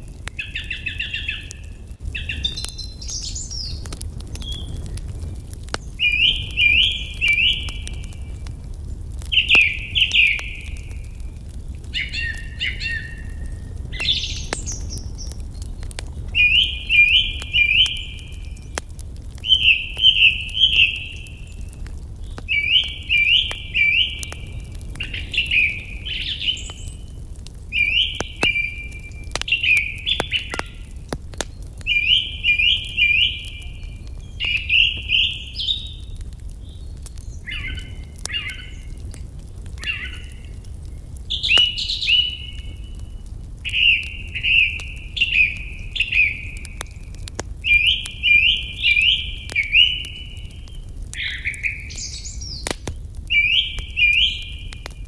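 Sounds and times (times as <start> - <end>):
wood fire crackling: 0.0 - 55.0
songbird singing: 0.1 - 8.6, 9.2 - 39.1, 39.7 - 55.0.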